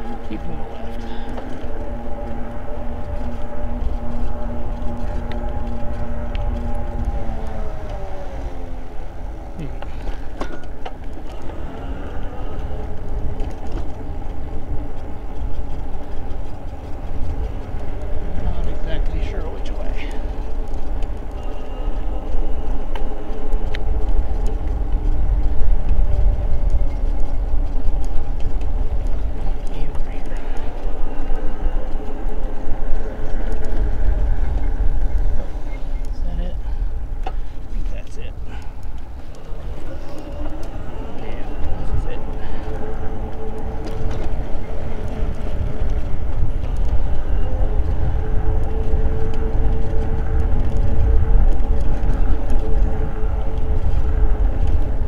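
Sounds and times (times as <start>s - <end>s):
bike tyres rolling over asphalt: 0.0s - 55.0s
steady motor hum: 0.0s - 55.0s
wind rumble on microphone: 0.0s - 55.0s.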